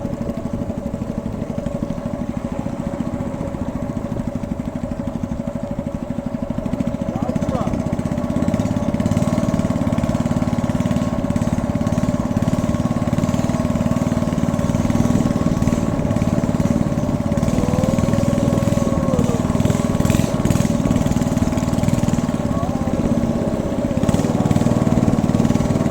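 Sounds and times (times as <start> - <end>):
small boat engine running: 0.0 - 25.9.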